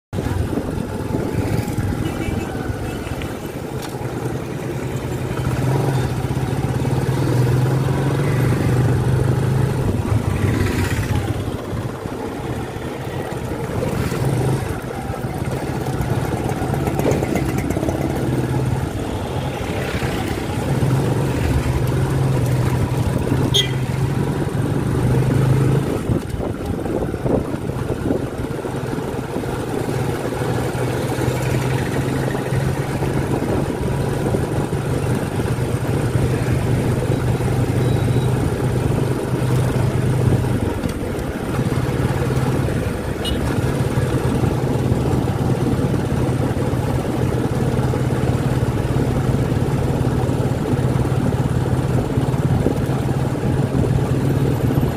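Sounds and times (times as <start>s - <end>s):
road rumble: 0.1s - 54.9s
wind: 0.1s - 54.9s
motorcycle engine running: 0.2s - 54.9s.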